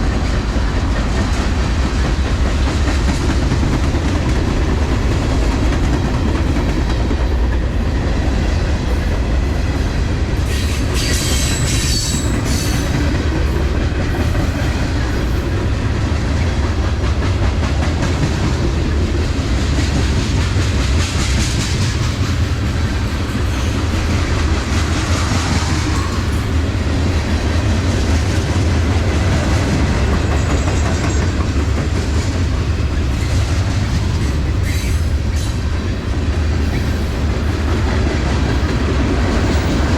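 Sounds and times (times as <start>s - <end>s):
train cars rumbling past: 0.0s - 39.9s.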